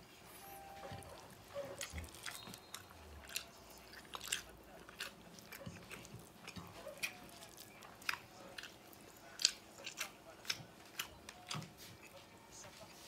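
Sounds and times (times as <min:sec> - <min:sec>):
person chewing food: 0:00.3 - 0:13.0.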